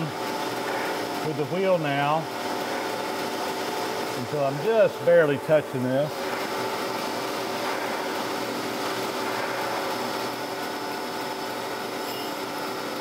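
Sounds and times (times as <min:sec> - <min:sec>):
surface grinder whirring: 0:00.0 - 0:13.0.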